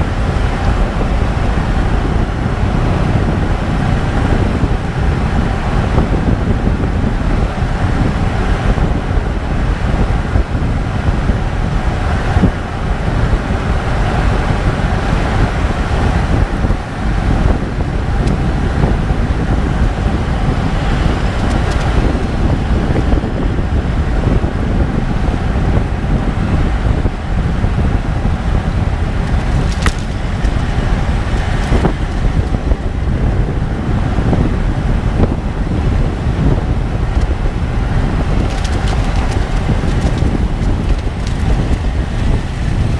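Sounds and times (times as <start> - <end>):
road and wind noise: 0.0 - 42.9
wind rumbling on microphone: 0.0 - 42.9.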